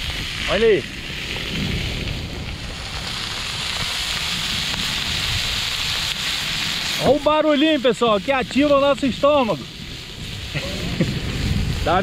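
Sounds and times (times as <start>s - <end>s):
burning wood crackles: 0.0s - 12.0s
seafood sizzling on griddle: 0.0s - 12.0s.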